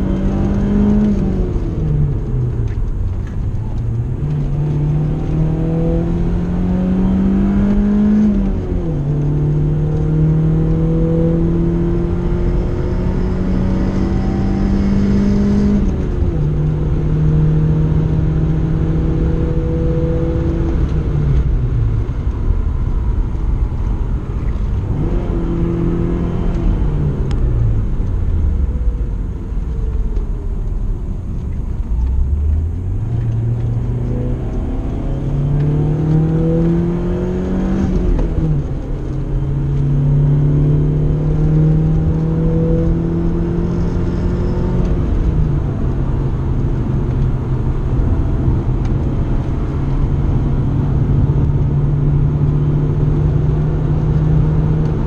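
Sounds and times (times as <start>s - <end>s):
car engine revving with gear shifts: 0.0s - 55.0s.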